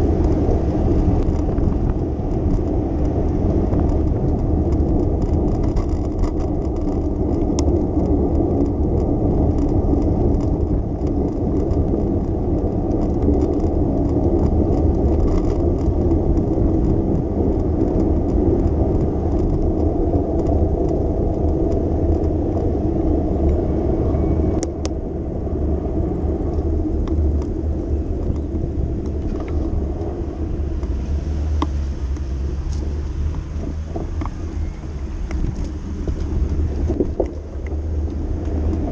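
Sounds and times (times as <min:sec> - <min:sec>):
car traffic: 0:00.0 - 0:38.9
wind and road rumble: 0:00.0 - 0:38.9.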